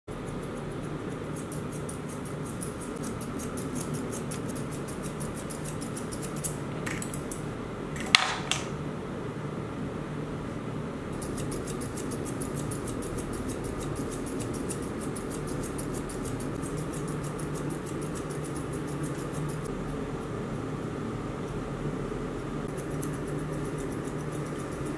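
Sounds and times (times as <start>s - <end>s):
low room hum: 0.1s - 24.9s.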